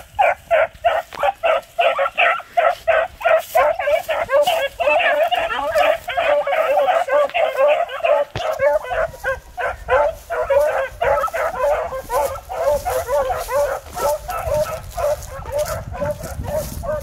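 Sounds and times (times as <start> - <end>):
hounds baying and yelping: 0.0 - 17.0.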